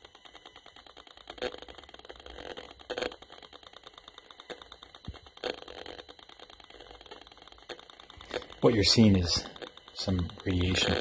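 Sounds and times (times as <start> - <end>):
crackling bursts: 0.0 - 11.0
rf meter rapid clicking: 0.0 - 11.0.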